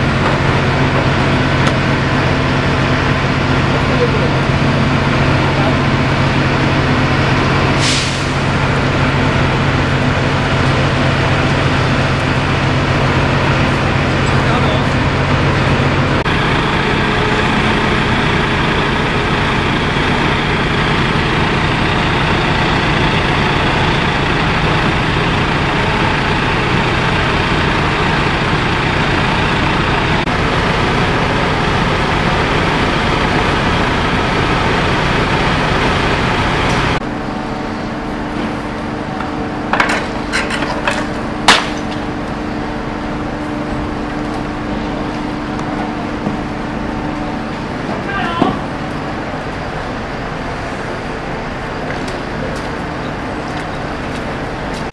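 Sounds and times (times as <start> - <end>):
fire engine pump engine running: 0.0 - 54.9.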